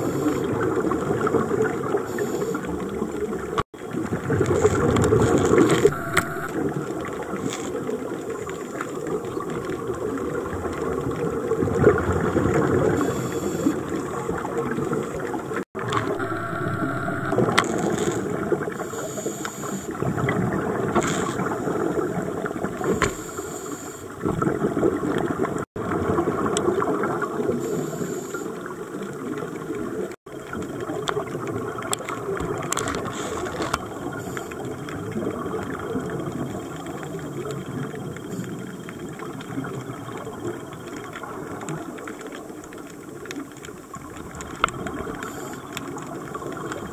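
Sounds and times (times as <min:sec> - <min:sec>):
underwater bubbles gurgling: 0:00.0 - 0:46.9.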